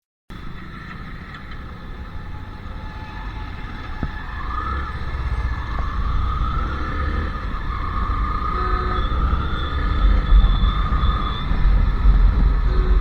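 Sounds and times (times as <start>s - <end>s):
motorcycle engine rumbling: 0.3s - 13.0s.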